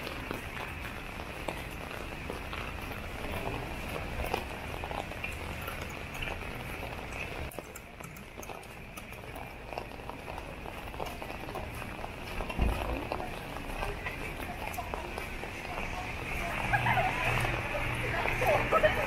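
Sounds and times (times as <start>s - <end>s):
rain hissing on wet pavement: 0.0s - 19.0s
rain pattering on umbrella: 0.0s - 19.0s.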